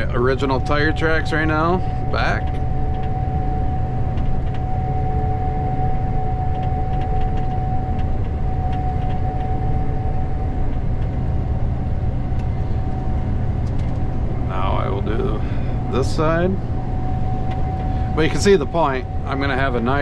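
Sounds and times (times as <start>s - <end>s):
combine harvester drone in cab: 0.0s - 20.0s
thin steady whine: 0.0s - 20.0s.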